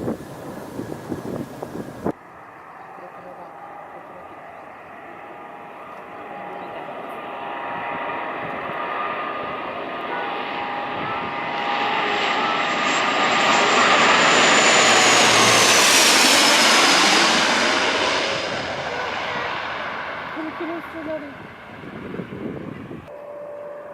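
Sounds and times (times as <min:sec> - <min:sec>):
airliner engines passing overhead: 0:00.0 - 0:23.9
high jet whine: 0:00.0 - 0:23.9.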